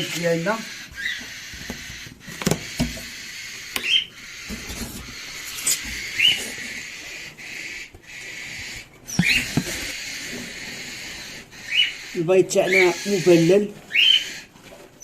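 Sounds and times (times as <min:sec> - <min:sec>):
high bird chirps: 0:00.0 - 0:14.5.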